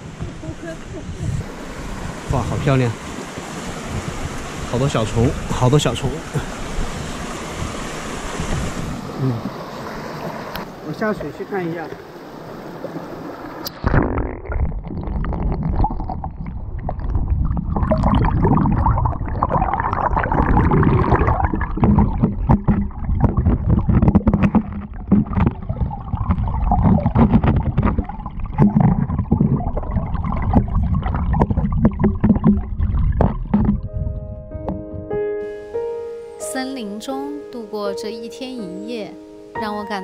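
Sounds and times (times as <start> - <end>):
underwater stream rush: 0.0 - 36.3.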